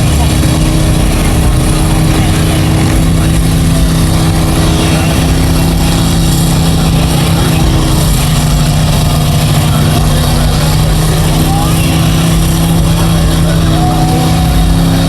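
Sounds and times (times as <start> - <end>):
big truck engine running: 0.0 - 15.0.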